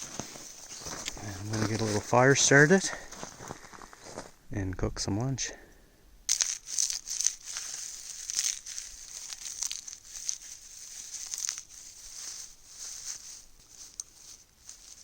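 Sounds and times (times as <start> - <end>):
fire steel scraping: 0.0 - 4.2, 6.3 - 15.0.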